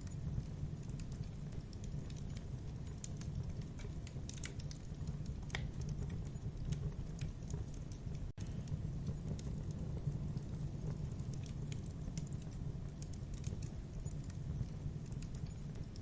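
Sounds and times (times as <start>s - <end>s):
campfire pops and snaps: 0.0s - 16.0s
low rumble of flames: 0.0s - 16.0s.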